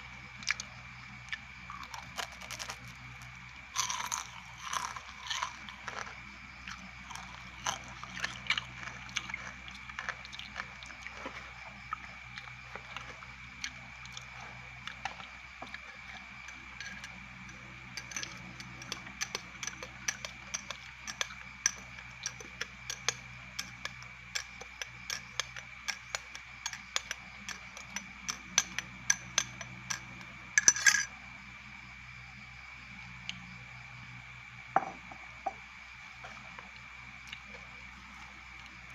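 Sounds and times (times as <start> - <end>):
crunching and chewing fried insects: 0.0 - 31.5, 35.8 - 38.9.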